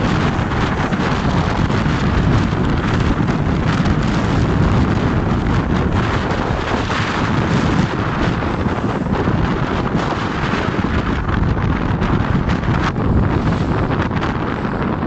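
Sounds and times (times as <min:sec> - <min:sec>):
water splashing along boat hull: 0:00.0 - 0:15.0
wind buffeting microphone: 0:00.0 - 0:15.0.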